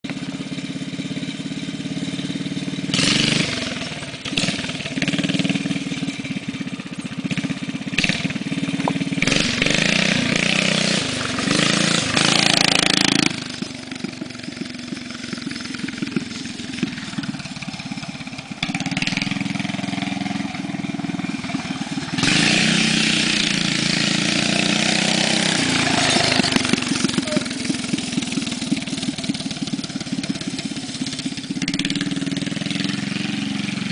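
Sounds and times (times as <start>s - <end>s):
small engine revving: 0.1s - 33.9s.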